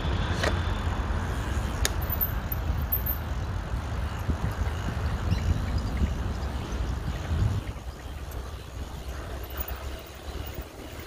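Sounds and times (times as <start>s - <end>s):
wind buffeting microphone: 1.6s - 11.0s.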